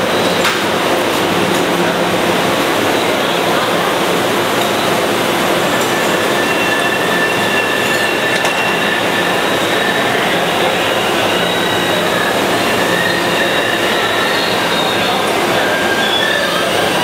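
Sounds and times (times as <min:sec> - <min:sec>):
train running equipment rush: 0:00.0 - 0:17.0.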